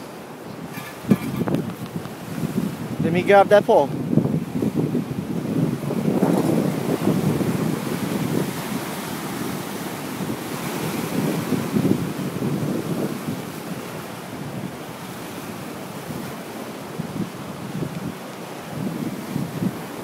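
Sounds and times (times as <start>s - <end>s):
ocean surf washing in: 0.0s - 20.0s
wind rumbling on microphone: 0.0s - 20.0s.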